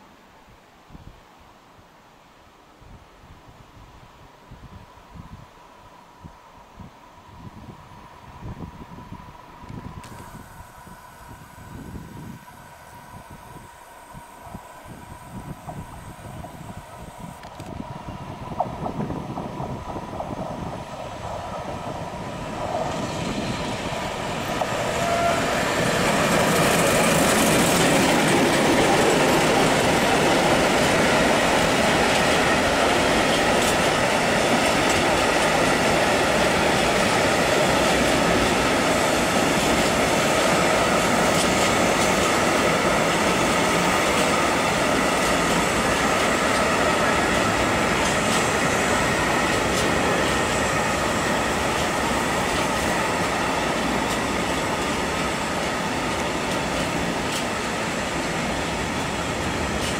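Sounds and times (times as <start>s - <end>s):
diesel locomotive passing: 6.0s - 59.9s.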